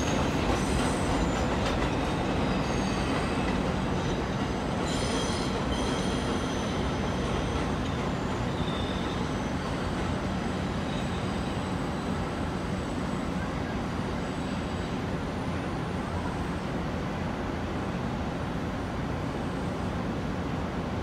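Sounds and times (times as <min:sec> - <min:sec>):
city traffic noise: 0:00.0 - 0:21.0
distant train running: 0:00.0 - 0:21.0.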